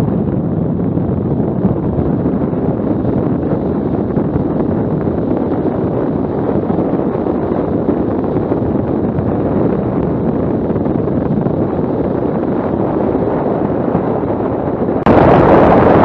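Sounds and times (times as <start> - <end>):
motorcycle road and engine noise: 0.0 - 16.0
wind rush on microphone: 0.0 - 16.0.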